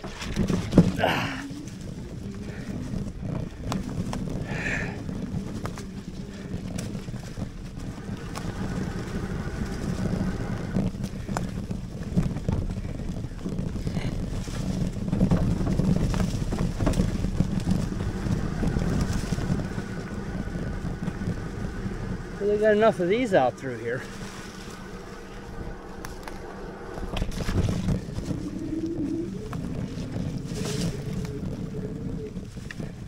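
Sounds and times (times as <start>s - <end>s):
bike rattling over bumps: 0.0s - 33.0s
tyres and wind rumble: 0.0s - 33.0s.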